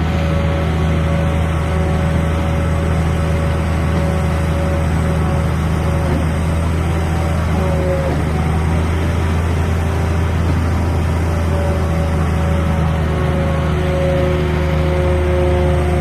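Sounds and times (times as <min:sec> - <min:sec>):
machine engine low drone: 0:00.0 - 0:16.0.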